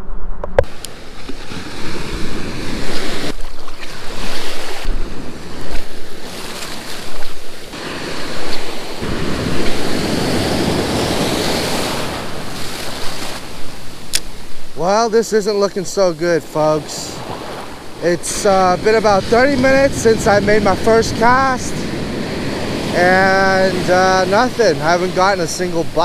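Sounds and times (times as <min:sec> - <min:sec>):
wind rumbling on microphone: 0:00.0 - 0:14.8, 0:17.2 - 0:26.0
waves washing up beach: 0:00.6 - 0:26.0.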